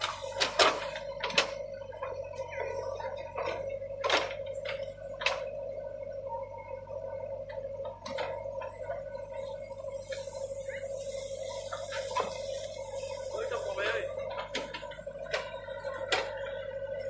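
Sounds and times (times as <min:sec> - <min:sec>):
earthmover engine whine: 0:00.0 - 0:17.0.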